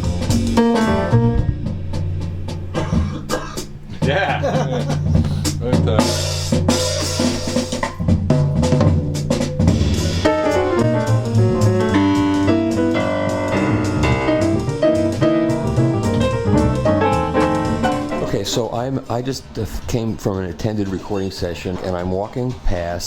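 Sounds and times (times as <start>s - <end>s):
jazz drum kit: 0.0s - 18.7s
bass: 0.0s - 22.0s.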